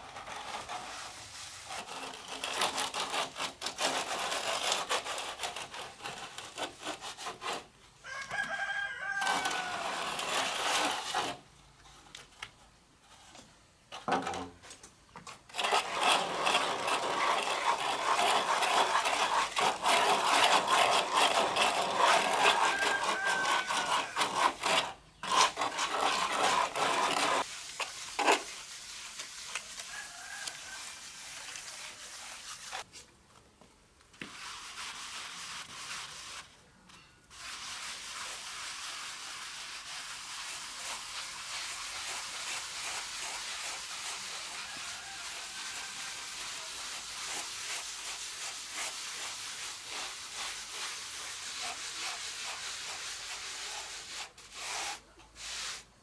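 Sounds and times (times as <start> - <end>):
trowel scraping wet plaster: 0.0 - 7.7, 8.4 - 11.4, 15.3 - 32.9, 34.2 - 36.5, 37.3 - 55.9.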